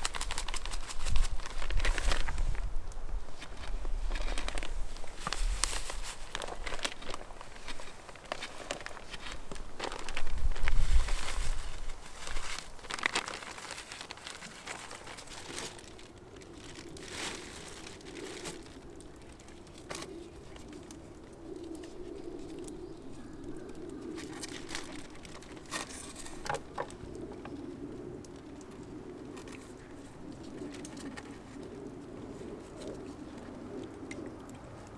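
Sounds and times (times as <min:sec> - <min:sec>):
crinkling of things handled: 0:00.0 - 0:34.9
dove cooing: 0:03.4 - 0:34.9.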